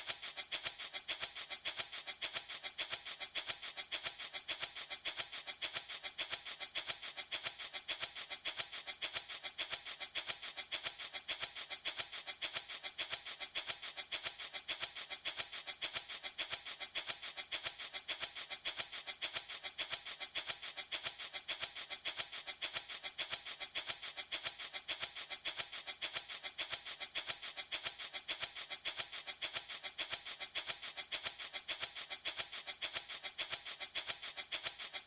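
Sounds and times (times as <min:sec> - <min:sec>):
wooden baby rattle shaken: 0:00.0 - 0:35.0.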